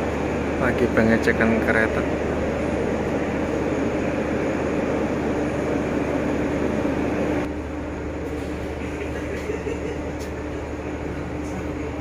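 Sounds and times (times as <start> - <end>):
stationary train machinery humming: 0.0 - 12.0.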